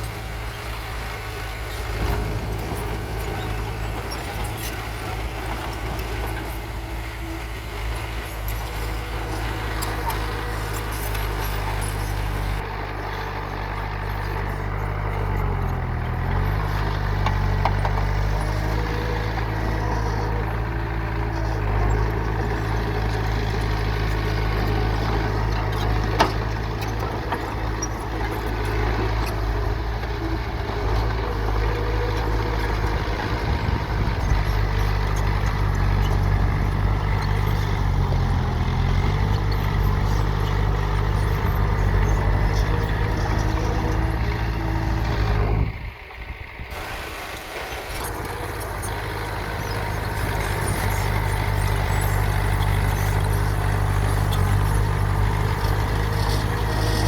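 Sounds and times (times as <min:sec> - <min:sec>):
heavy truck engines running: 0:00.0 - 0:57.0.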